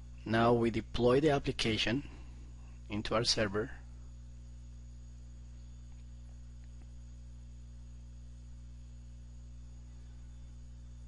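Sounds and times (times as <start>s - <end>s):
low electrical hum with tones: 0.0s - 11.0s.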